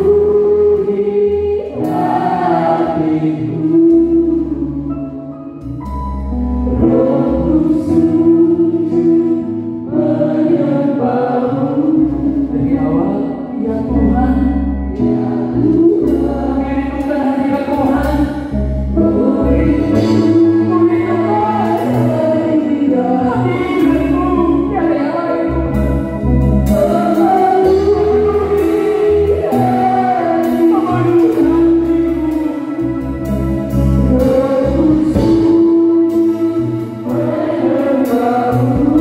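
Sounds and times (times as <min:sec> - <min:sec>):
group singing a hymn: 0:00.0 - 0:05.1, 0:06.7 - 0:39.0
bass line: 0:00.0 - 0:39.0.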